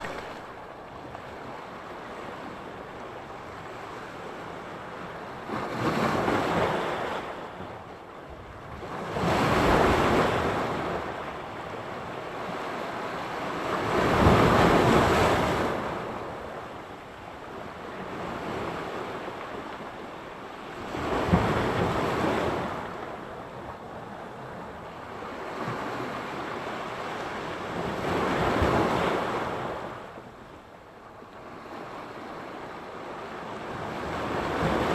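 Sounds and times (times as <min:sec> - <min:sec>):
waves breaking ashore: 0:00.0 - 0:08.0, 0:08.7 - 0:30.2, 0:31.4 - 0:34.9.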